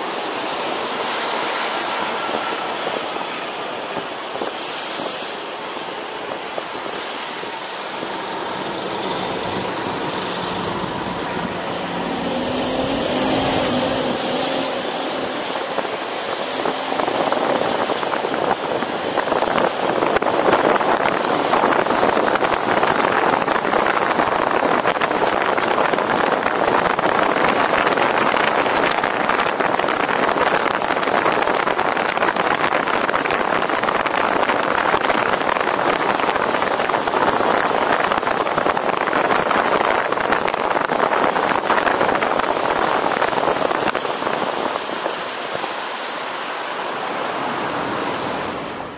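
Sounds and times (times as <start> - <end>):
car road and wind noise: 0.0 - 48.9.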